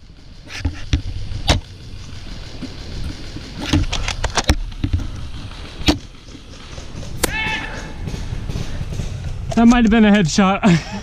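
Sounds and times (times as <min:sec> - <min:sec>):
low handling rumble: 0:00.0 - 0:11.0.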